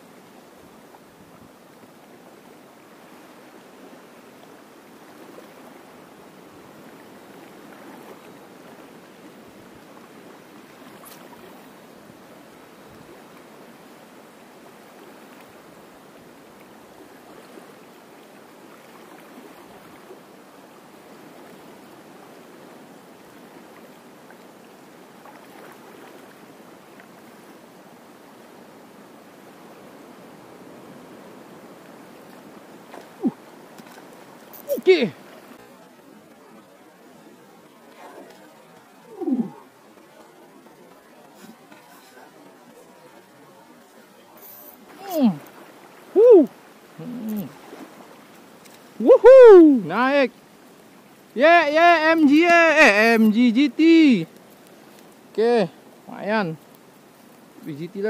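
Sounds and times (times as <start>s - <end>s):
small waves lapping on shore: 0.0s - 58.0s.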